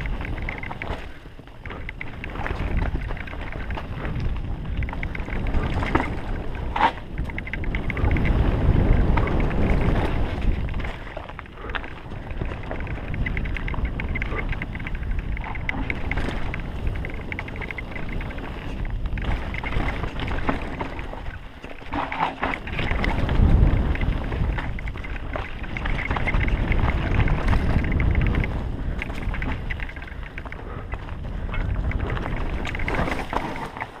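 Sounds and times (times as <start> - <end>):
wind on microphone: 0.0 - 33.9
bike rattling: 0.0 - 34.0
bike tyres rumbling on dirt: 0.0 - 34.0.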